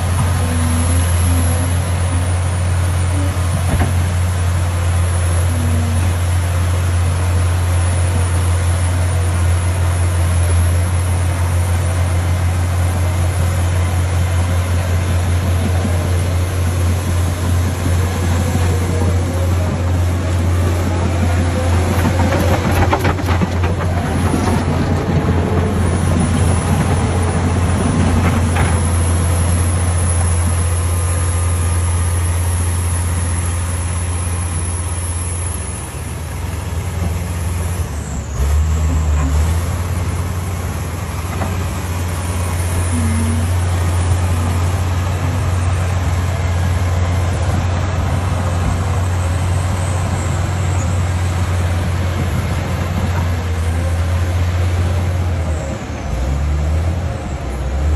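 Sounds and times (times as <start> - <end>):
bulldozer diesel engine droning: 0.0 - 57.9.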